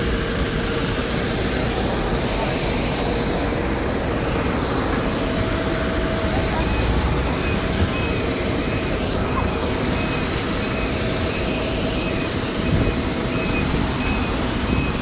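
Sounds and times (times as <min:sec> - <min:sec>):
jet turbine rush and whine: 0:00.0 - 0:15.0.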